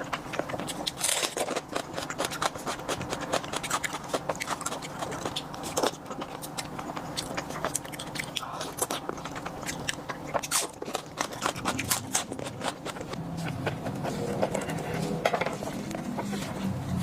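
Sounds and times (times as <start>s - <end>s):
small clicks and scrapes: 0.0s - 16.9s
chewing: 0.0s - 17.0s.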